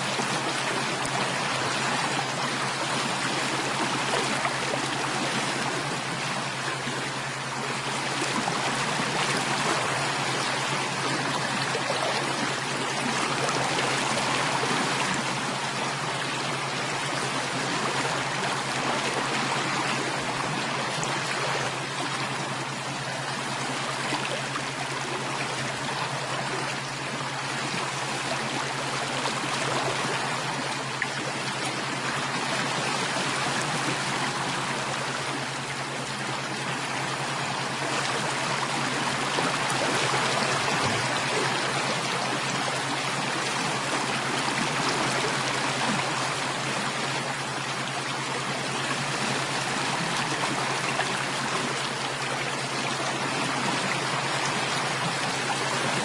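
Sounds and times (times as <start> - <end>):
stream water trickling and rushing: 0.0 - 56.0.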